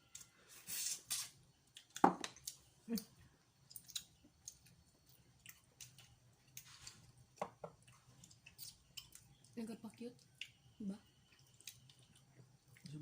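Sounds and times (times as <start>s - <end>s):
shellfish being chewed: 1.1s - 13.0s.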